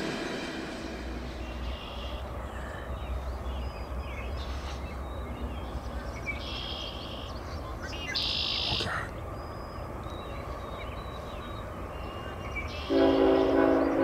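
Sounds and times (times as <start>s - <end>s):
distant freight train rumble: 0.0s - 14.0s
songbirds chirping: 0.0s - 14.0s.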